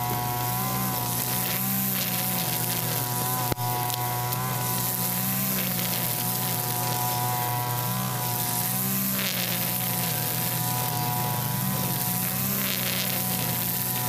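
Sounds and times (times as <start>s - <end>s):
brush cutter engine running: 0.0s - 14.0s
trimmer line cutting grass: 0.0s - 14.0s.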